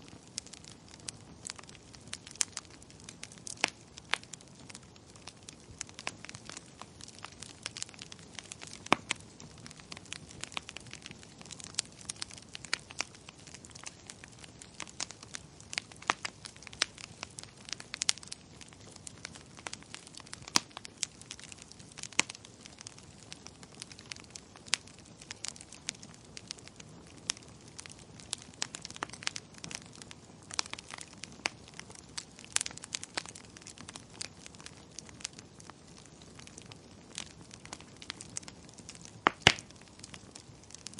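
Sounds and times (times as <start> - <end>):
hiss of burning: 0.0 - 40.9
wood fire crackling: 0.0 - 40.9.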